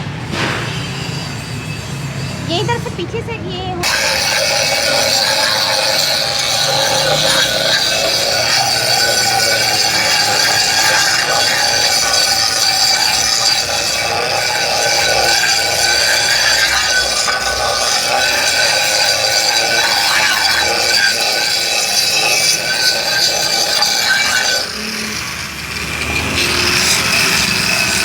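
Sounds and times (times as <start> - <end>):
grinder whining against metal pan: 0.7 - 28.0.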